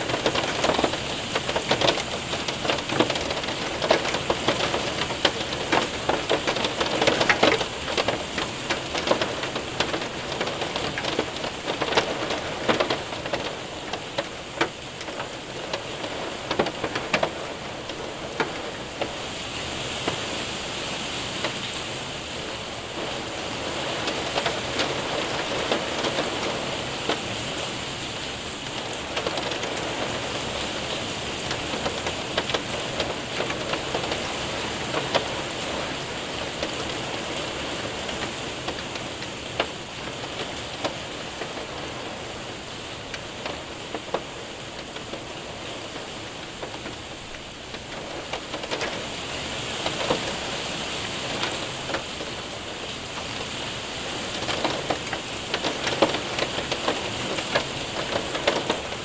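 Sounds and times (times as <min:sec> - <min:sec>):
hailstones ticking: 0:00.0 - 0:59.0
heavy rain on window and roof: 0:00.0 - 0:59.0.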